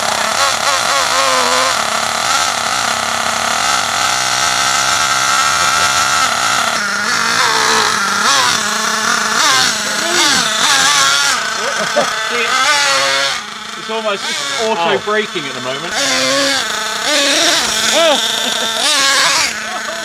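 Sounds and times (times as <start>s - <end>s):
small model engine revving: 0.0s - 20.0s.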